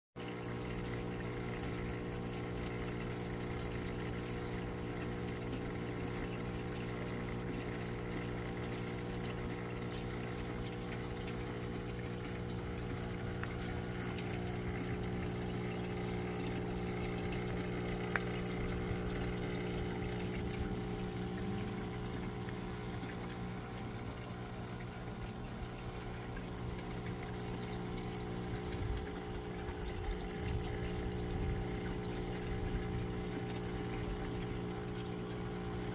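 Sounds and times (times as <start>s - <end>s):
water pouring and trickling: 0.2s - 35.9s
water pump humming: 0.2s - 35.9s.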